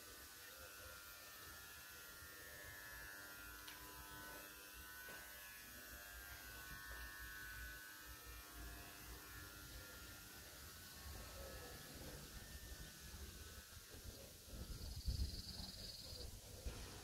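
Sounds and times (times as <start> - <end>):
faint electrical buzz with low hum: 0.0 - 17.0.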